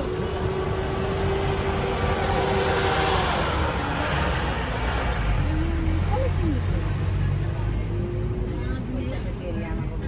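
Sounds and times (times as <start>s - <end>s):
vehicle road and engine noise: 0.0s - 10.0s.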